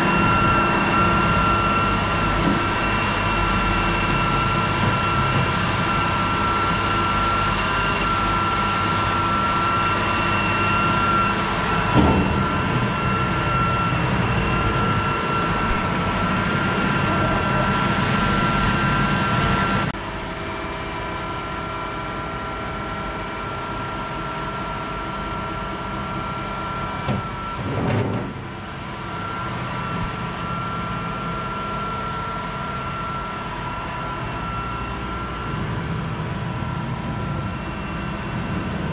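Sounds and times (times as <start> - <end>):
machinery droning and whining: 0.0 - 38.9.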